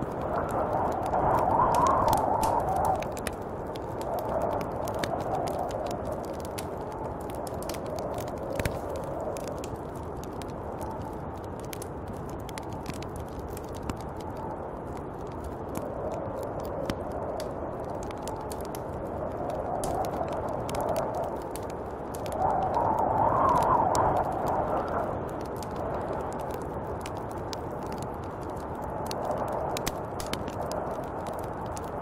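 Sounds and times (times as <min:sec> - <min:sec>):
small crackles and ticks: 0:00.0 - 0:32.0
wind blowing: 0:00.0 - 0:32.0.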